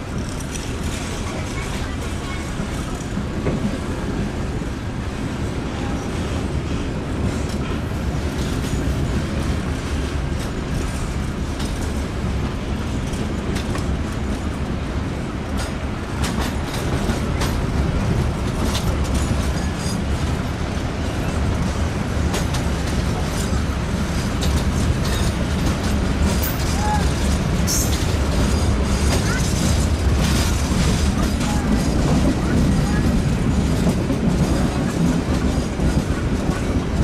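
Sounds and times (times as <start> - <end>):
train rumble inside carriage: 0.0 - 37.0.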